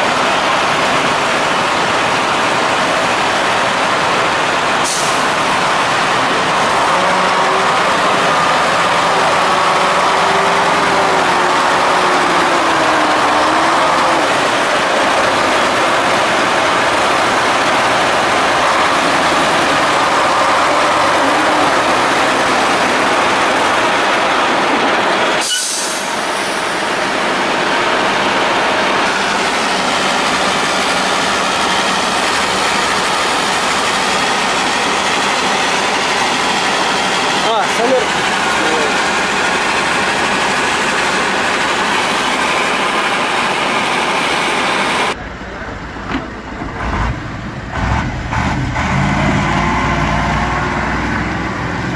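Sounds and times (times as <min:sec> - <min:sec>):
truck diesel engine under load: 0:00.0 - 0:51.9.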